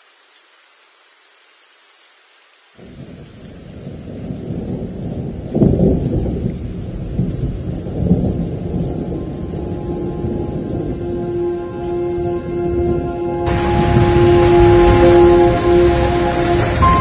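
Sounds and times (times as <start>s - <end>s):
rain hiss: 0.0s - 17.0s
thunder rumbling: 2.8s - 17.0s.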